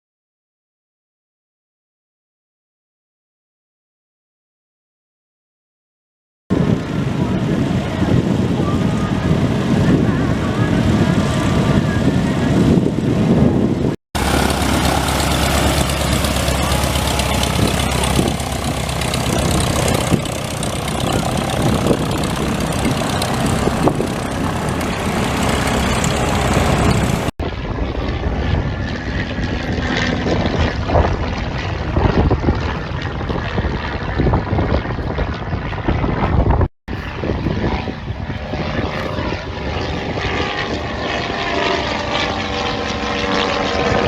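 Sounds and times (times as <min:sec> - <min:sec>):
propeller aircraft engine: 0:06.5 - 0:44.0.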